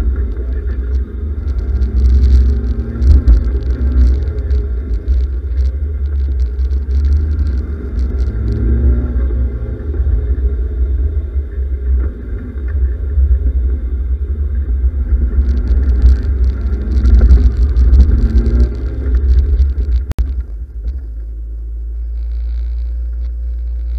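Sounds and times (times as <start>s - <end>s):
car engine idling: 0.0s - 23.9s
car engine revving: 0.0s - 23.9s.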